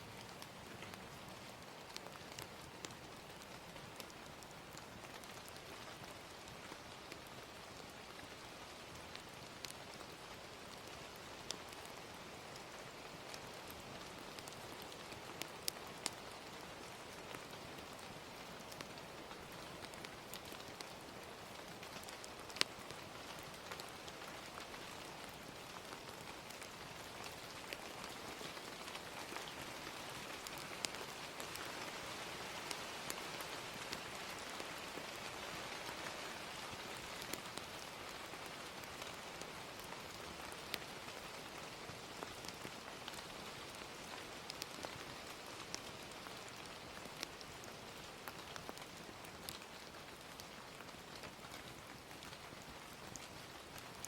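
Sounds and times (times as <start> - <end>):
gentle steady rain: 0.0 - 54.0
fire crackling and popping: 0.1 - 54.0.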